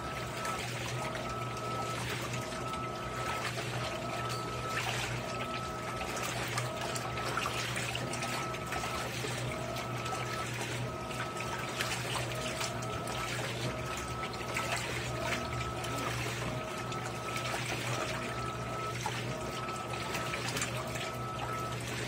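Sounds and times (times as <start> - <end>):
washing machine motor hum: 0.0 - 22.0
water sloshing and churning: 0.0 - 22.0.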